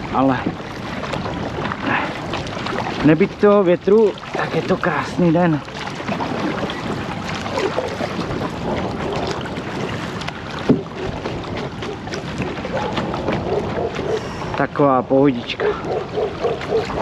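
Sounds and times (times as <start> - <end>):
paddle splashing water: 0.0 - 17.0
wind buffeting microphone: 0.0 - 17.0.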